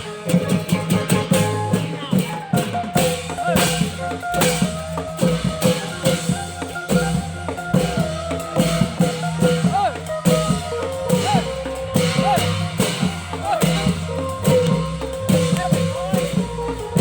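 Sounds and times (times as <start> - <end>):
fast drumming: 0.0 - 17.0
sliding melody line: 0.0 - 17.0.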